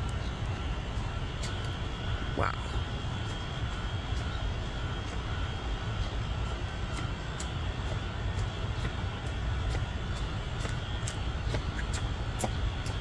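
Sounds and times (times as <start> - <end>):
city background rumble: 0.0 - 13.0.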